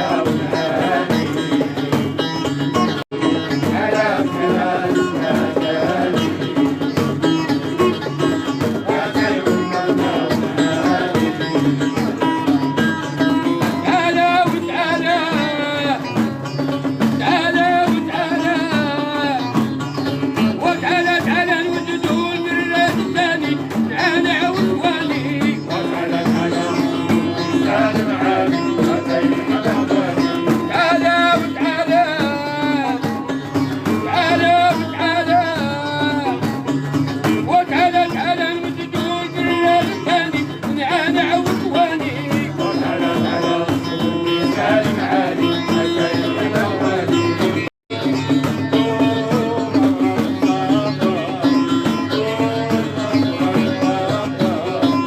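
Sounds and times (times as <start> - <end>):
person singing ornamented lines: 0.0 - 55.0
plucked strings: 0.0 - 55.0.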